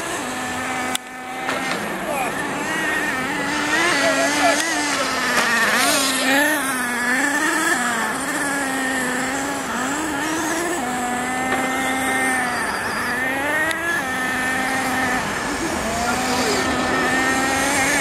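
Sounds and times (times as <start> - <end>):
model car engines buzzing: 0.0 - 18.0.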